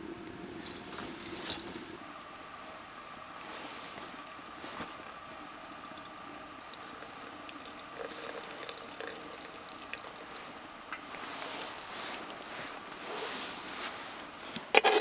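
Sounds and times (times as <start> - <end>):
water boiling: 0.0 - 15.0.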